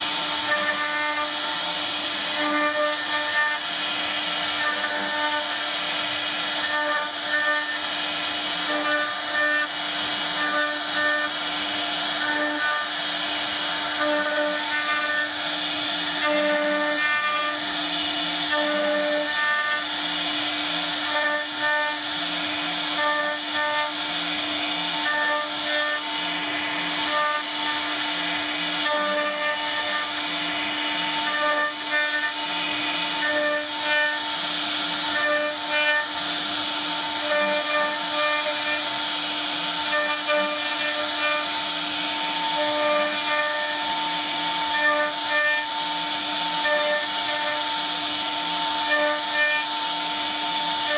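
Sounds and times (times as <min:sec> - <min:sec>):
router whining and hissing: 0:00.0 - 0:50.9.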